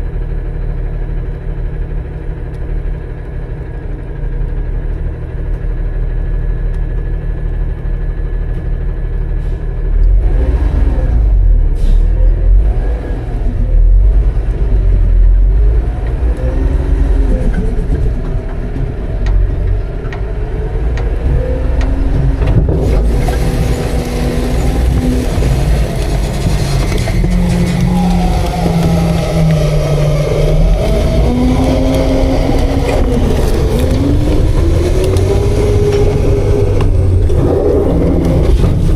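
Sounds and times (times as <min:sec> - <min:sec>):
garbage truck engine idling and revving: 0:00.0 - 0:38.9
hydraulic whine: 0:00.0 - 0:38.9.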